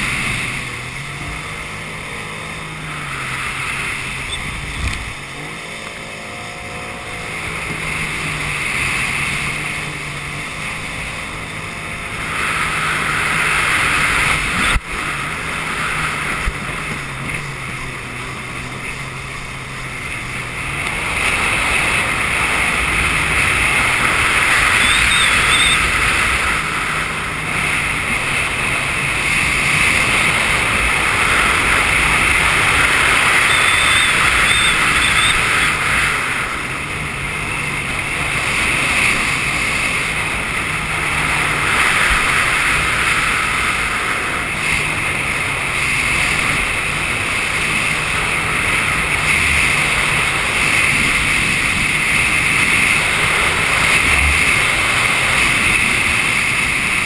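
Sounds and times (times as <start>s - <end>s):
jet ski engine running: 0.0s - 57.0s
water rushing against hull: 0.0s - 57.0s.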